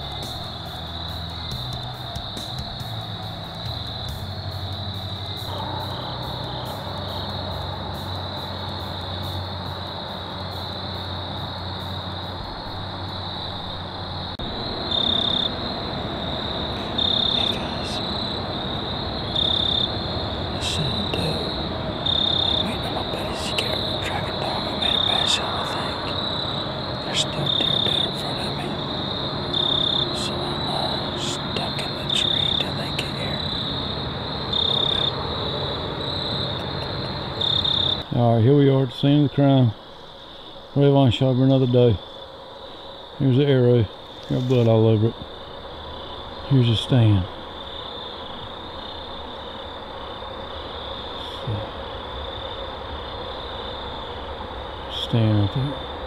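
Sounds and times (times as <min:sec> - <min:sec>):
high-pitched insect drone: 0:00.0 - 0:56.0
insect chirp: 0:00.0 - 0:56.0.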